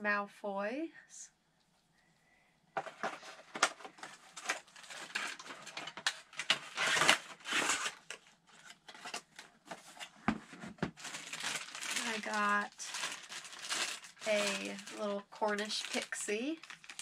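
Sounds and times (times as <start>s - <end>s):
plastic and cardboard crinkling: 2.8s - 17.0s.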